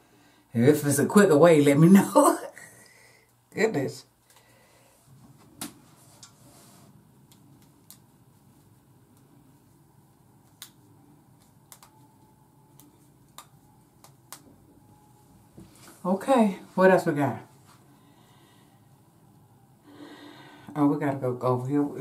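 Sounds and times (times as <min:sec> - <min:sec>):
faint room hum: 0:00.0 - 0:22.0.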